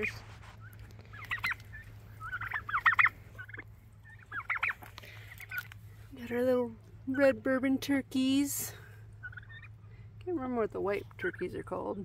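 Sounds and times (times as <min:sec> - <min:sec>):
turkeys gobbling: 0:00.0 - 0:07.4, 0:08.8 - 0:12.0.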